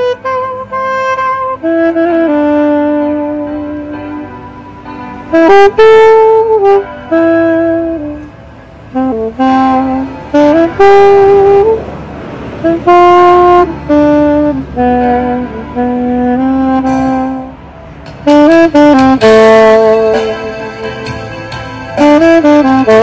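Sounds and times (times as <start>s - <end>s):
solo saxophone melody: 0.0s - 23.0s.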